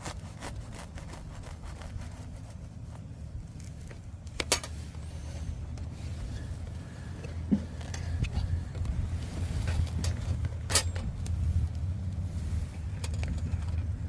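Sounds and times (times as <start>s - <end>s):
wind on microphone rumble: 0.0s - 14.0s.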